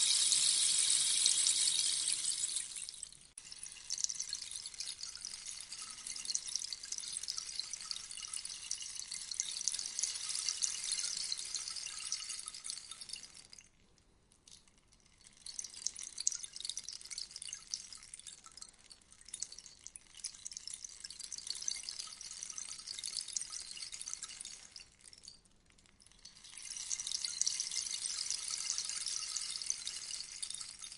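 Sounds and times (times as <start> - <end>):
rainstick patter: 0.0 - 13.8, 14.4 - 30.9.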